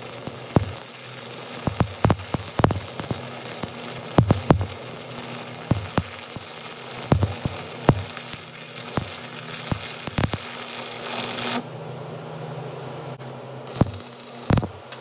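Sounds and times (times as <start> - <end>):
welding arc crackling hiss: 0.0 - 11.6, 13.7 - 14.8.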